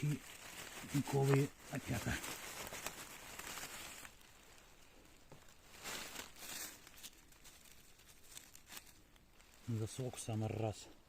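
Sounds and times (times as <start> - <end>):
faint rustling and crackling: 0.0 - 11.0.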